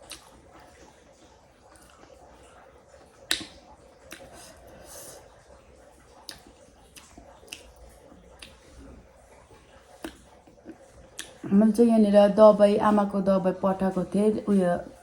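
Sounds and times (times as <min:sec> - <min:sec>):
faint steady background: 0:00.0 - 0:15.0.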